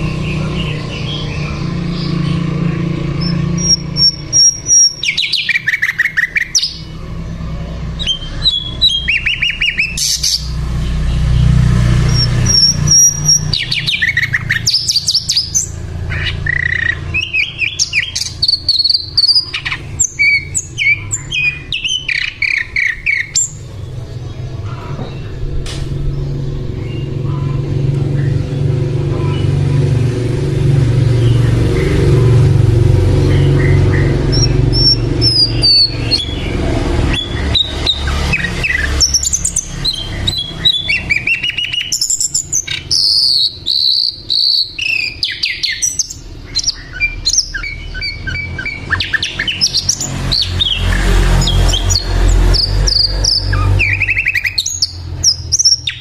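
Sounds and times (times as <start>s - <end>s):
flycatcher singing chirps and trills: 0.0s - 23.7s, 30.7s - 56.0s.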